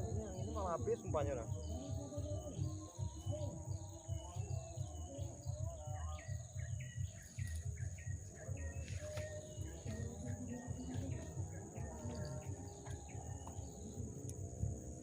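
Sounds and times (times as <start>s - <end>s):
bird calling: 0.0s - 14.5s
insects droning: 0.0s - 15.0s.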